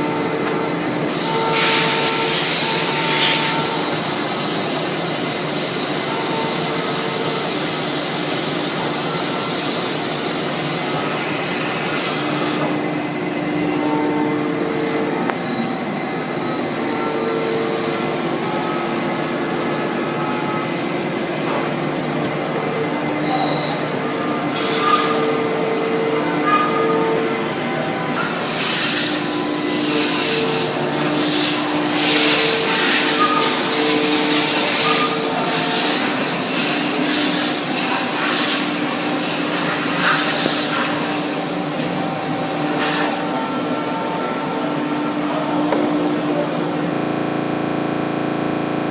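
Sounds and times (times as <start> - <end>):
lathe running: 0.0 - 48.9.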